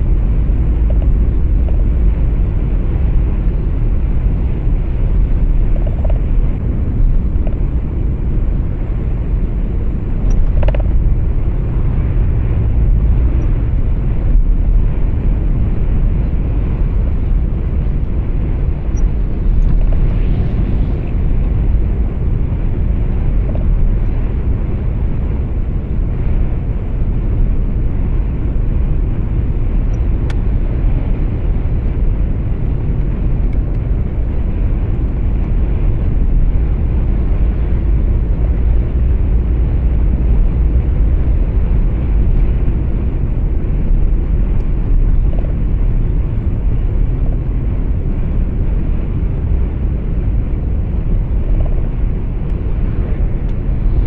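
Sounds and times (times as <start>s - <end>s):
truck engine rumble: 0.0s - 54.0s.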